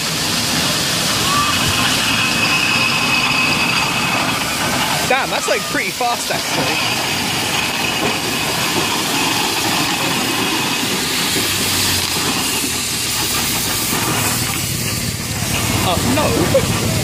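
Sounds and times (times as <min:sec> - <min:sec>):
steam engines clattering: 0:00.0 - 0:17.0
steam hissing: 0:00.0 - 0:17.0.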